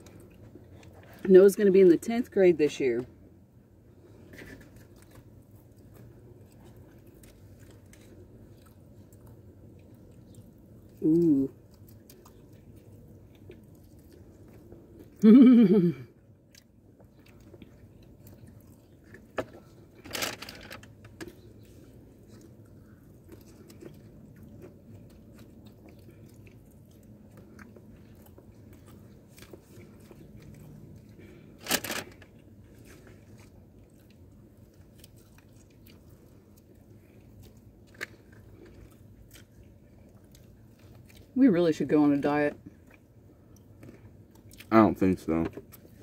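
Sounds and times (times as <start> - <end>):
people chewing pizza: 0.0 - 46.0.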